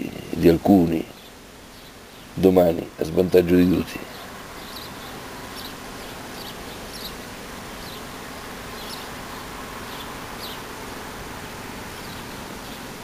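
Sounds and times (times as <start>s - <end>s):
small birds chirping: 0.0s - 13.0s
steady hiss: 0.0s - 13.0s.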